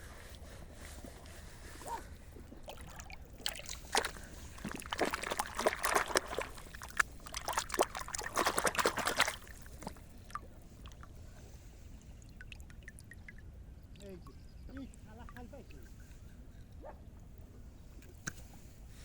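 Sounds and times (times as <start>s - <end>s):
water splashing and trickling: 0.2s - 16.8s.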